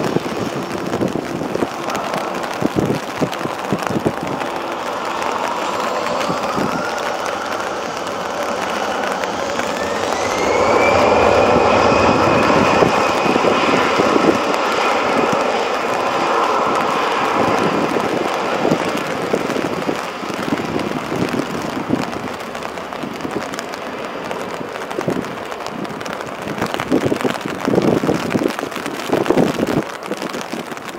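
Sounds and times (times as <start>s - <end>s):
jet engines spooling up: 0.0s - 30.9s
loud jet roar: 0.0s - 30.9s.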